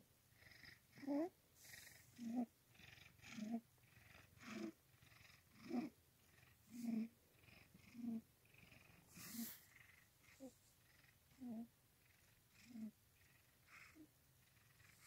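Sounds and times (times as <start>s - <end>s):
cat purring: 0.3s - 15.0s.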